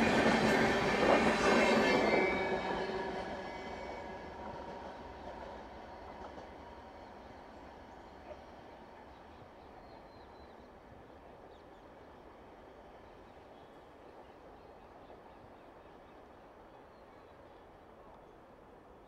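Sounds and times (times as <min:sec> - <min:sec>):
distant train rumble: 0:00.0 - 0:19.0.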